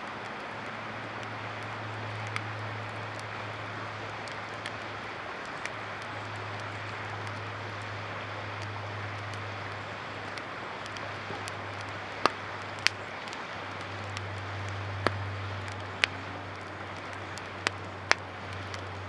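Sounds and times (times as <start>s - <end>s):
campfire wood crackling: 0.0s - 19.0s
constant low hum: 0.0s - 19.0s
flowing river water: 0.0s - 19.0s.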